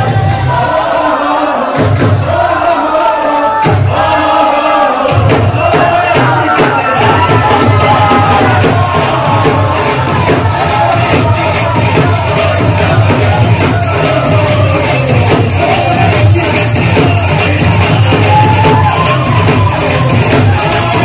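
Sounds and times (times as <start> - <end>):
crowd: 0.0 - 21.0
dance song with singing: 0.0 - 21.0
heavy bass beat: 1.7 - 2.8, 5.0 - 21.0.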